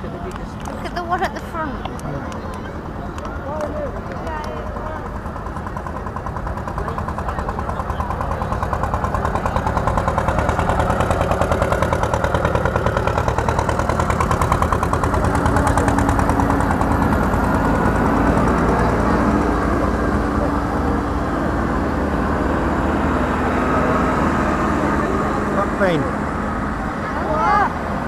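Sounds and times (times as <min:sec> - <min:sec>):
backhoe diesel engines driving past: 0:00.0 - 0:28.0.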